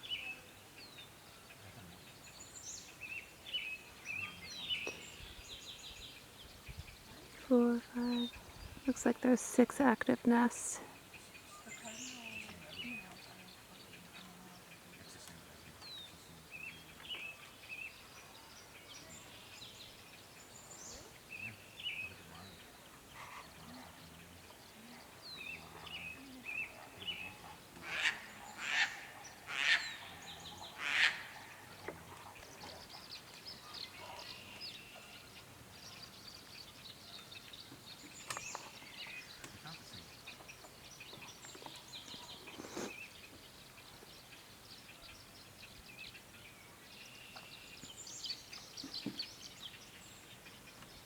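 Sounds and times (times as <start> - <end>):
loud bird calls: 0.0 - 51.0
wild birds chirping: 0.0 - 51.0.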